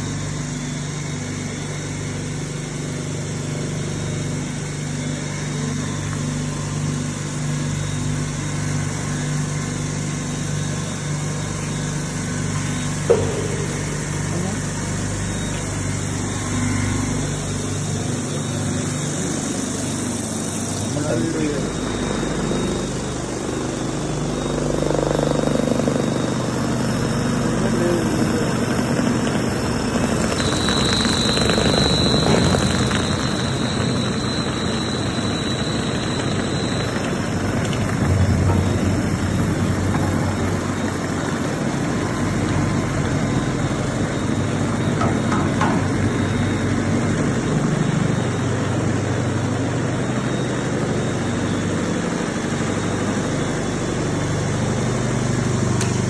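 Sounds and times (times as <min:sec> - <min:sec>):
high mechanical whine: 0:00.0 - 0:56.0
mixer machine droning: 0:00.0 - 0:56.0.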